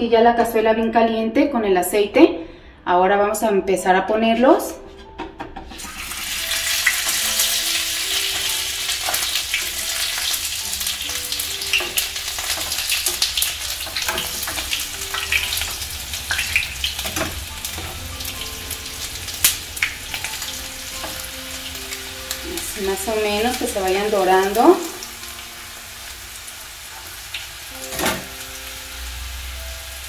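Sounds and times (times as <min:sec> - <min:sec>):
tacos sizzling in hot oil: 0:05.7 - 0:30.0.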